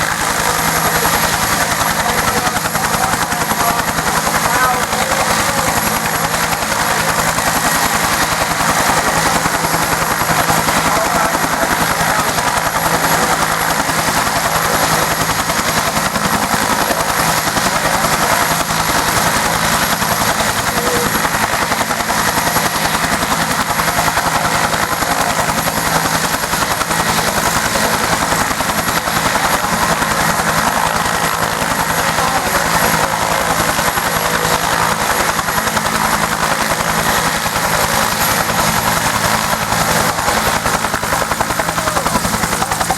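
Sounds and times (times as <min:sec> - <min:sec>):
helicopter rotor blades beating: 0:00.0 - 0:42.9
helicopter turbine whine: 0:00.0 - 0:42.9.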